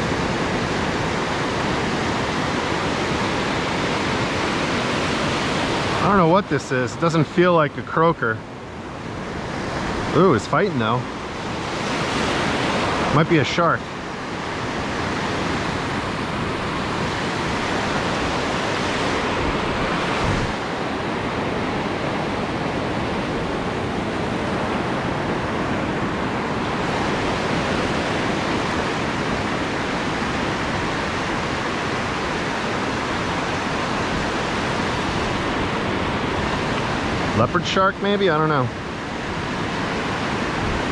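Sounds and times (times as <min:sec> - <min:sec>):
ocean surf breaking: 0:00.0 - 0:40.9.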